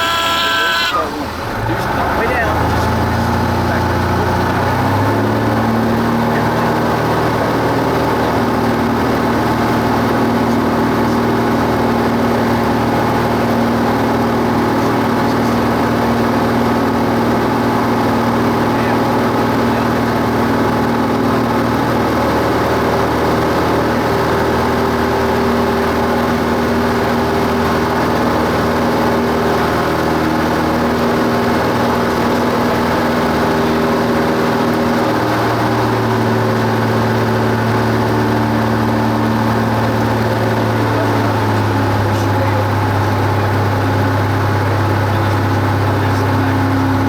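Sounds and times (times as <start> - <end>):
airplane engine and propeller drone: 0.0 - 47.0.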